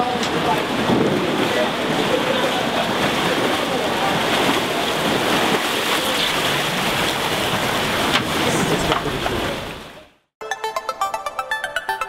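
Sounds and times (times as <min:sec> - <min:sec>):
sharp splashes: 0:00.0 - 0:10.1
pool water splashing: 0:00.0 - 0:10.2.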